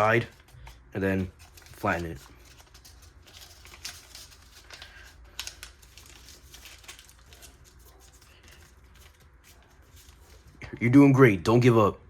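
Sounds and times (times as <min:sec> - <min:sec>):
paper crinkling: 0:00.0 - 0:10.7.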